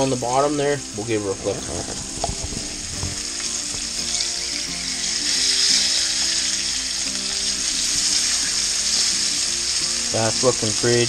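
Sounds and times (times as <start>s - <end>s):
background music: 0.0s - 11.0s
food sizzling in frying pan oil: 0.0s - 11.0s.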